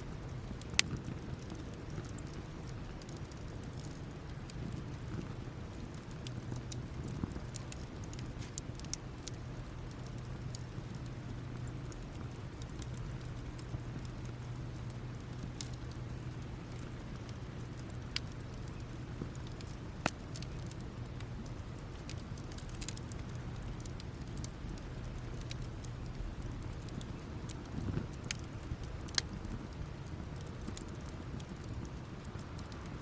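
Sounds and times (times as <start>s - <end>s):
low steady hum: 0.0s - 33.0s
campfire crackling and popping: 0.1s - 33.0s.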